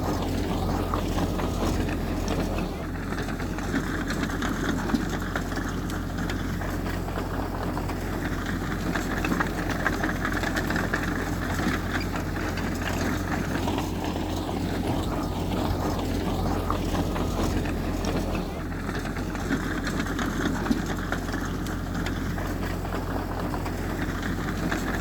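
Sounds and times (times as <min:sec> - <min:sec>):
diesel machinery engine rumble: 0:00.0 - 0:25.0
faint clicks and rattles: 0:00.0 - 0:25.0.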